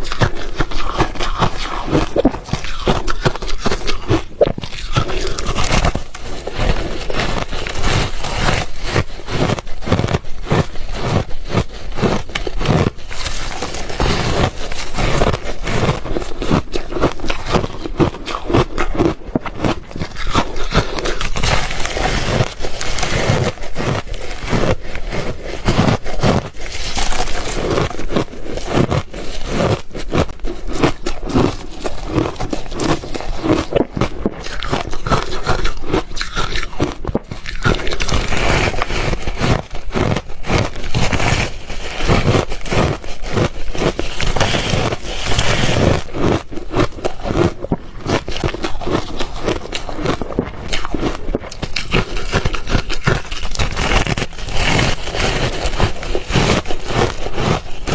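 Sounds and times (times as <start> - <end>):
person crunching ice: 0.0 - 57.9.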